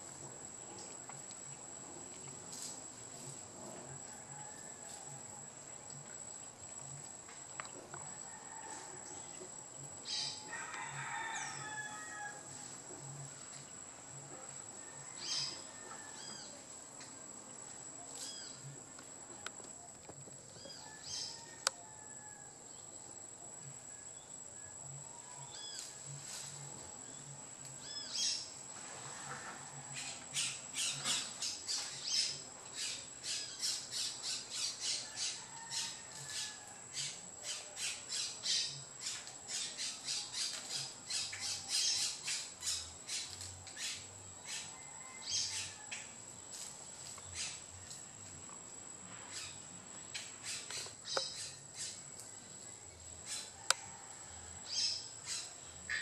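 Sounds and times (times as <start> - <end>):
insect buzz: 0.0 - 56.0.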